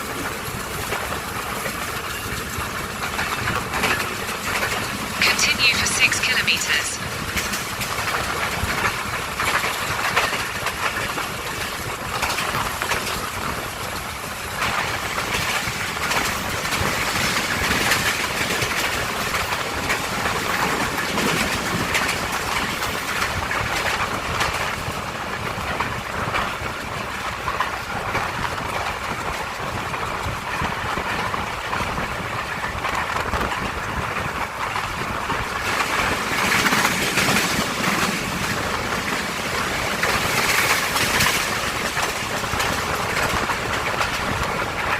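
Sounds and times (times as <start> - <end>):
train wheels rumbling on rails: 0.0 - 6.4, 7.0 - 44.9.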